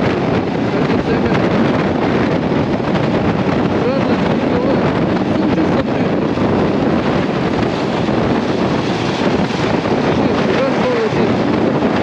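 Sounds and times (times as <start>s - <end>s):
wind rushing over microphone: 0.0s - 12.0s
motorcycle engine: 1.4s - 12.0s.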